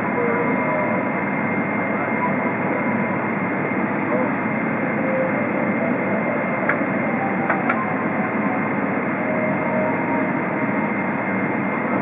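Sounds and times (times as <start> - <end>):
jet engines idling in cabin: 0.0 - 12.0.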